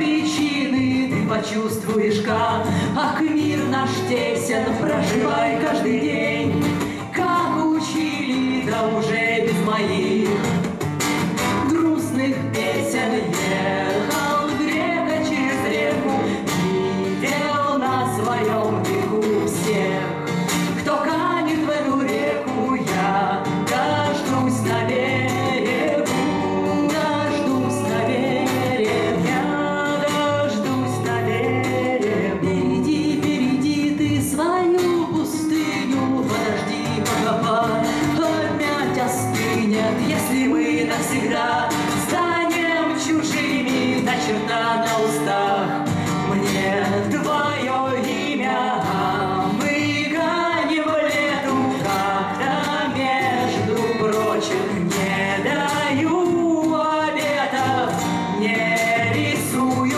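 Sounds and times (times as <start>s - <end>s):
acoustic guitar strumming: 0.0s - 59.9s
women singing: 0.0s - 59.9s.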